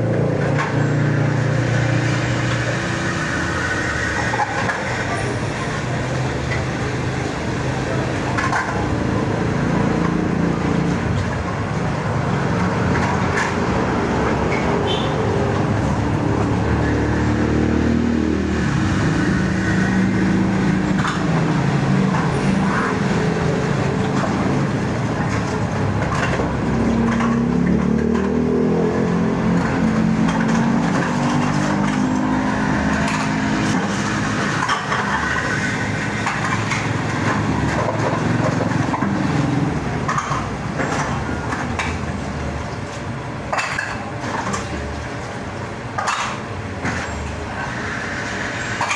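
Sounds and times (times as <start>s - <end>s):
road noise: 0.0s - 48.9s
vehicle engine running: 0.0s - 48.9s.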